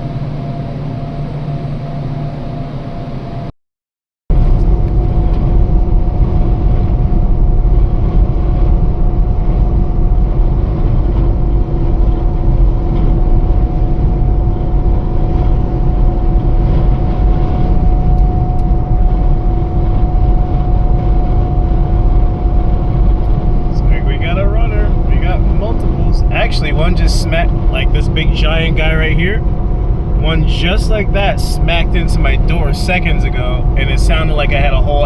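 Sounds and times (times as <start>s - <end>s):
wind buffeting a vehicle: 4.3s - 35.0s.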